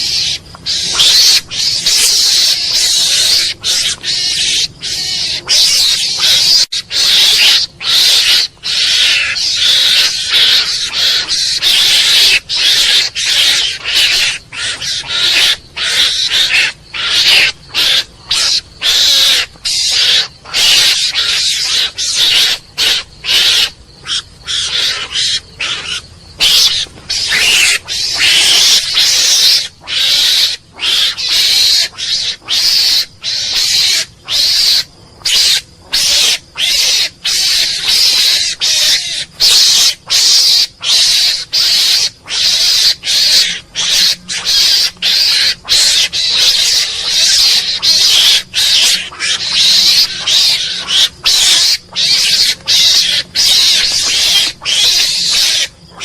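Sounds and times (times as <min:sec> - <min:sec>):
mongoose harsh high-pitched calls: 0:00.0 - 0:56.0.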